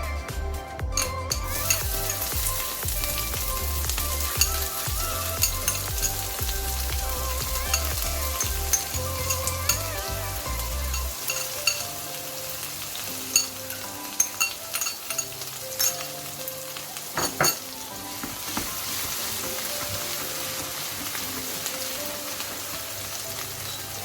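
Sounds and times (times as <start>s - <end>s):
food sizzling in a pan: 1.0s - 24.0s.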